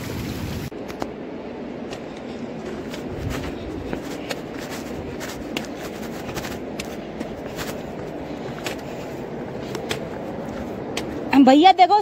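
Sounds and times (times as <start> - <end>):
steady rushing noise: 0.0 - 12.0
footsteps crunching on stony trail: 1.8 - 12.0.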